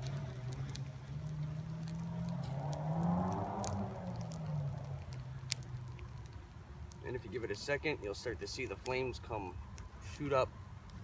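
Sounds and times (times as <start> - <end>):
wood fire crackling pops: 0.0 - 11.0.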